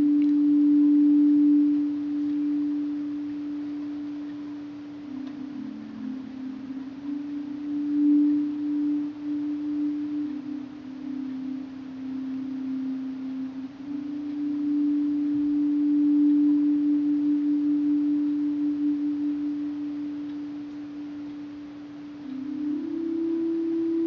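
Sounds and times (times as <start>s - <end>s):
pure-tone drone: 0.0s - 24.0s.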